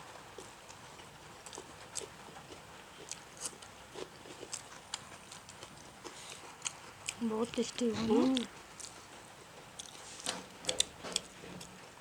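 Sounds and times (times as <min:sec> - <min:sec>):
person chewing food: 0:00.2 - 0:11.8.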